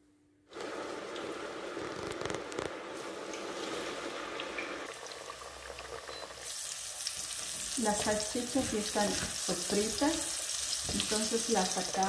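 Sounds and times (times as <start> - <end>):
potato sticks sizzling in hot oil: 0.8 - 12.0.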